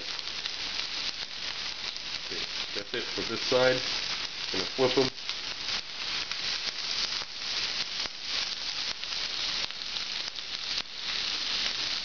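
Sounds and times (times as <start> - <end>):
shrimp sizzling in a pan: 0.0 - 12.0.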